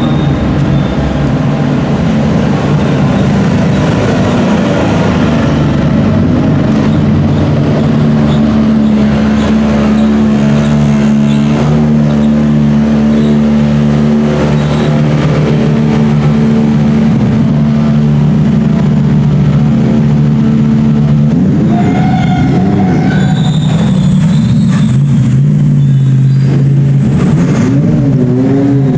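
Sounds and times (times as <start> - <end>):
race car engine at steady revs: 0.0 - 28.9.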